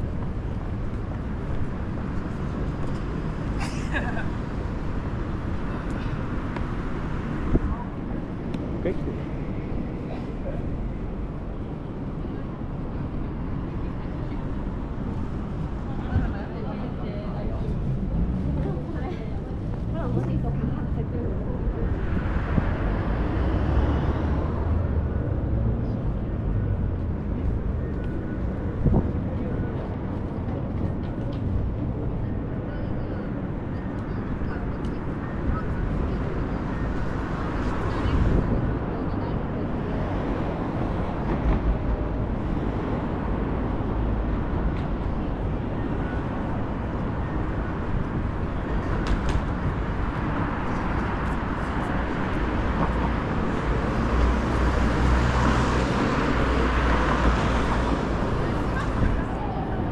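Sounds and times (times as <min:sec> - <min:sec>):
city traffic rumble: 0:00.0 - 0:59.9.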